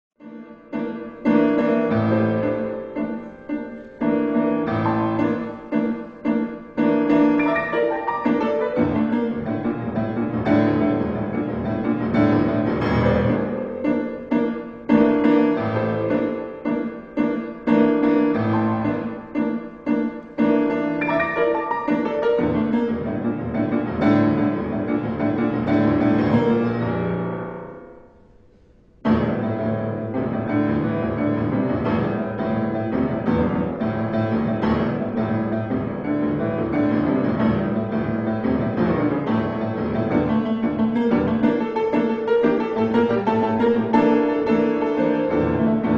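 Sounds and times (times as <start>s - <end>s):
piano music: 0.2s - 45.9s.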